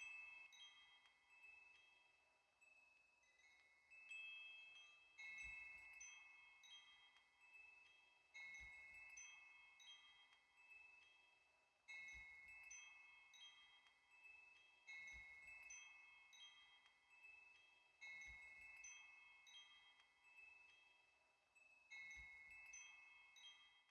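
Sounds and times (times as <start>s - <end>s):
faint chimes ringing: 0.0s - 23.9s
light tinkling notes: 0.0s - 23.9s.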